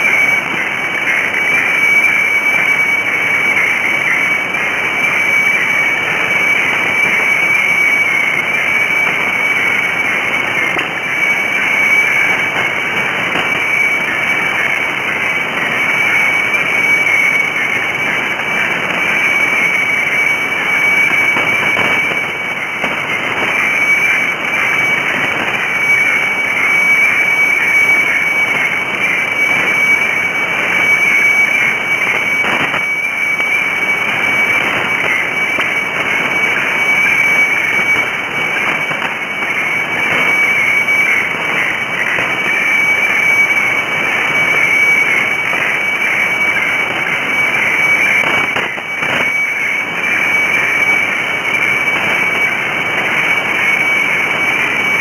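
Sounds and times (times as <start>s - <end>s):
radio hiss and static: 0.0s - 55.0s
radiofax high whistle: 0.0s - 55.0s.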